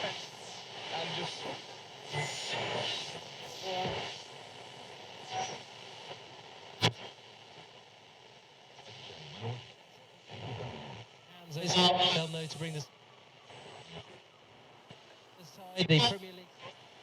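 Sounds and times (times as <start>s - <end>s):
radio static hiss: 0.0s - 17.0s
sharp radio crackle: 0.0s - 17.0s.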